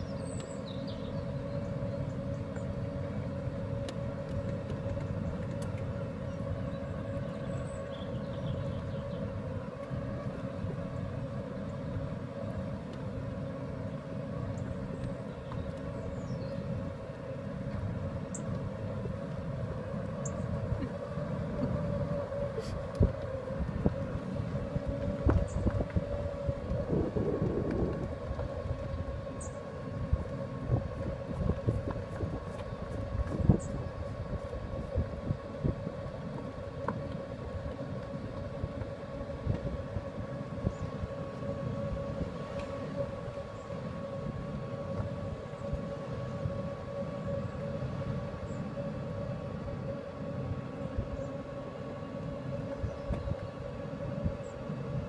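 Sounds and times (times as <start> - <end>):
tyre and wind rumble: 0.0 - 47.6
electric buggy motor whine: 0.0 - 55.0.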